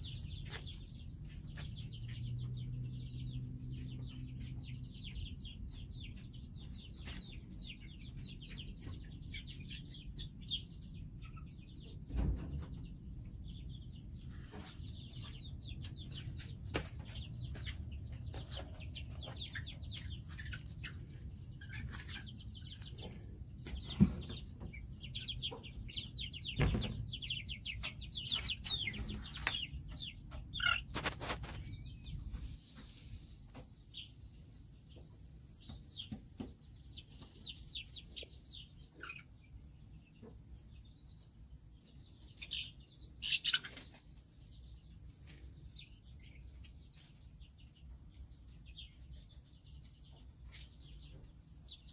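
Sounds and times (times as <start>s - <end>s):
chickens clucking: 0.0s - 51.9s
chicks peeping: 0.0s - 51.9s.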